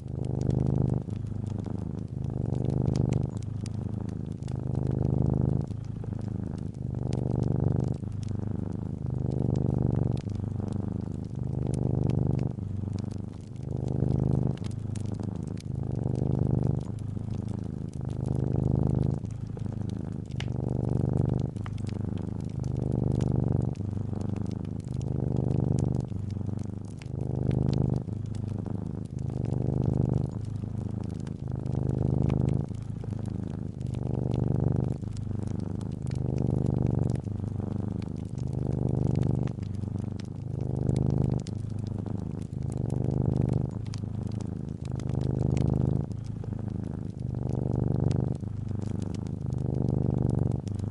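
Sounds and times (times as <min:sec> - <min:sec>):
cat purring: 0:00.0 - 0:50.9
fireplace crackles: 0:00.0 - 0:50.9.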